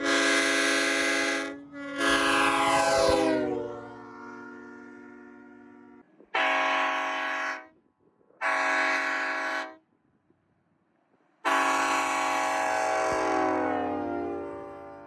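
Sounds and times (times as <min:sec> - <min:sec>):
train horn blasts: 0:00.0 - 0:07.8, 0:08.4 - 0:09.9, 0:11.4 - 0:15.0.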